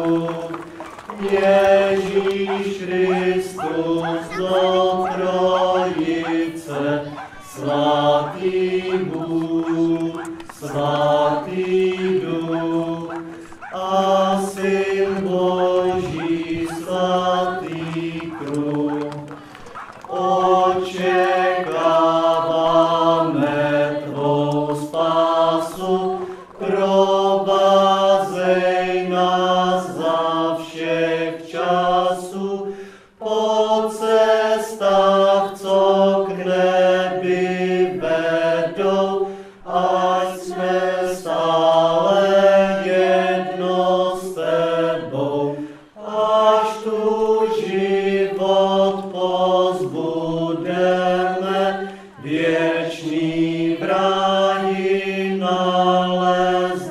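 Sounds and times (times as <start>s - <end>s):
voices chanting slow held notes: 0.0s - 56.9s.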